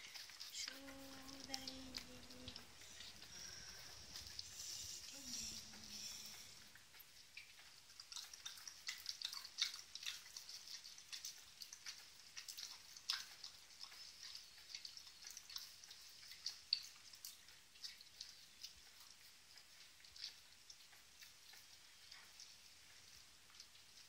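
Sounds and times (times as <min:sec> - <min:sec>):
dog lapping water: 0:00.0 - 0:24.0.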